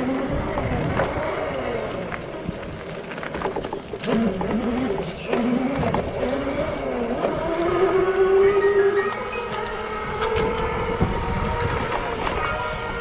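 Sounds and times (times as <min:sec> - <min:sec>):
dirt bike engine revving: 0:00.0 - 0:02.7, 0:04.0 - 0:13.0.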